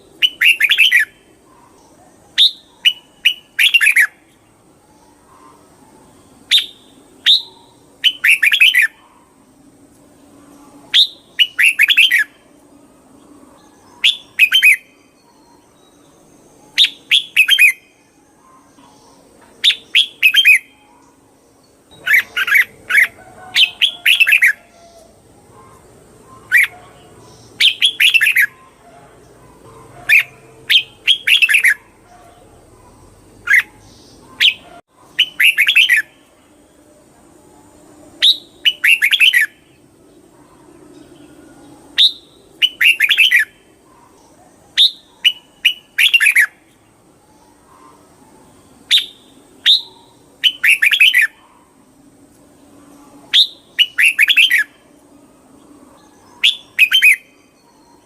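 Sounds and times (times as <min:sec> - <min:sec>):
bird singing chirping phrases: 0:00.0 - 0:58.0.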